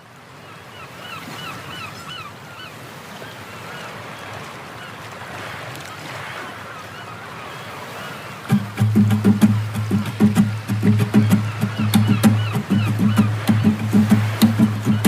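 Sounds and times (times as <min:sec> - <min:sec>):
bird calling: 0:00.7 - 0:05.0, 0:06.2 - 0:15.0.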